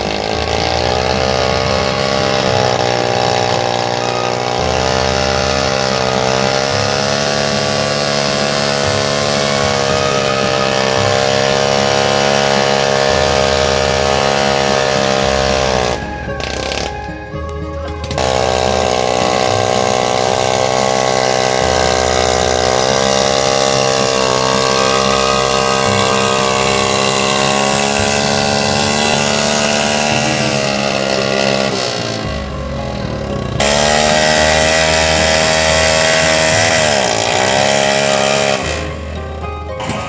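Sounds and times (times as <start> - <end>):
motorcycle engine revving under load: 0.0 - 40.0.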